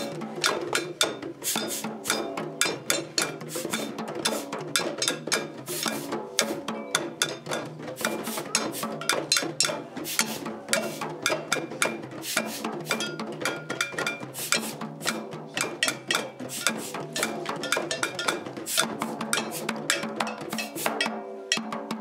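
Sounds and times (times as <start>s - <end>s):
hand drums playing: 0.0s - 22.0s
hand percussion clicking: 0.0s - 22.0s.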